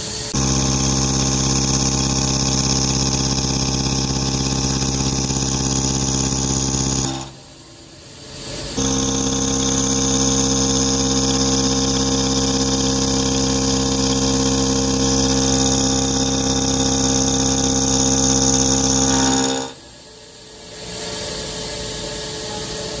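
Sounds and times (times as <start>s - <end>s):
machine spindle whining: 0.0s - 20.1s.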